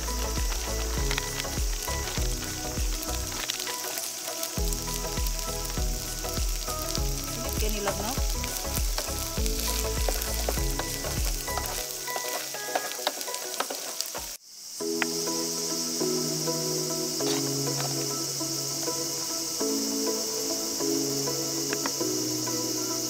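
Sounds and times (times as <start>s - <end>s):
crickets chirping: 0.0s - 23.0s
electronic music: 0.0s - 23.0s
food sizzling in a pan: 0.0s - 23.0s.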